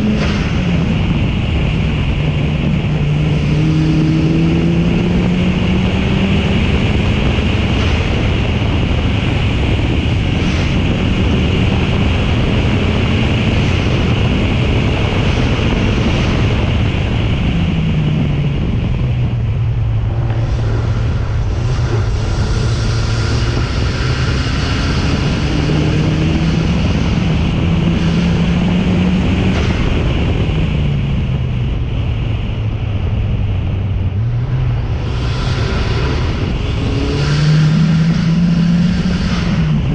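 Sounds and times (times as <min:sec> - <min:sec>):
race car engine revving: 0:00.0 - 0:31.8, 0:34.0 - 0:39.9
wind noise on microphone: 0:00.0 - 0:39.9.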